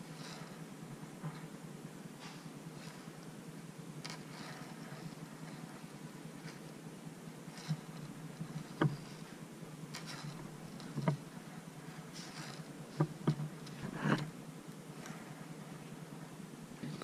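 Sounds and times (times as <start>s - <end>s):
low steady hum: 0.0s - 17.0s
wire scraping rustles: 2.2s - 17.0s.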